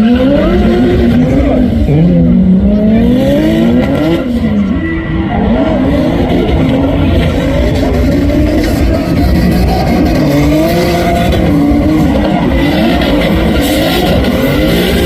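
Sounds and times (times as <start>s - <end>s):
car engine revving: 0.0s - 15.0s
tyres squealing and skidding: 0.0s - 15.0s.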